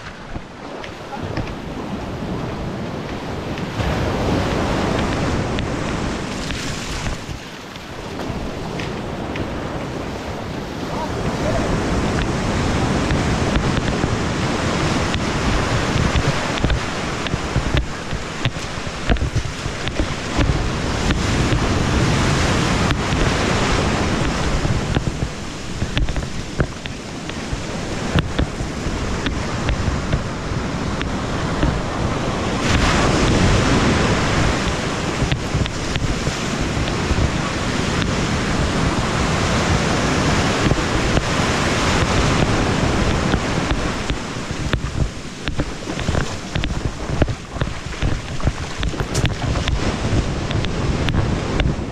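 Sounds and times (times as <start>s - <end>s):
ocean surf washing around legs: 0.0s - 51.9s
wind buffeting microphone: 0.0s - 51.9s.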